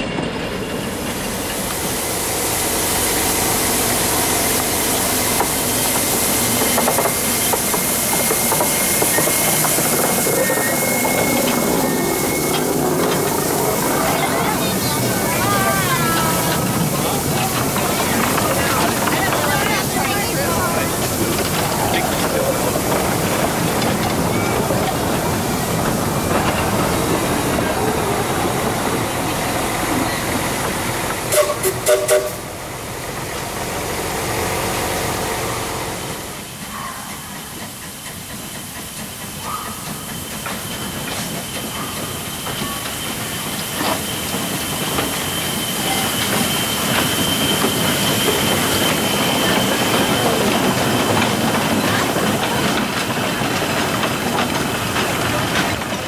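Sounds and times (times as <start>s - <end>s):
steam locomotive hissing steam: 0.0s - 56.0s
train rail and wheel noise: 0.0s - 56.0s.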